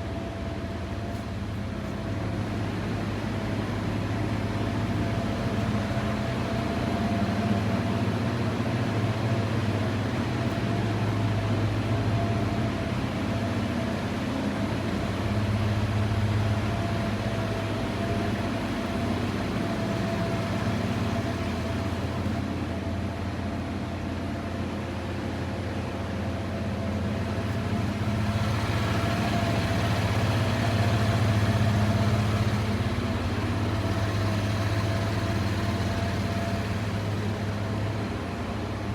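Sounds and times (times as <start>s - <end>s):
truck engine idling: 0.0s - 38.9s.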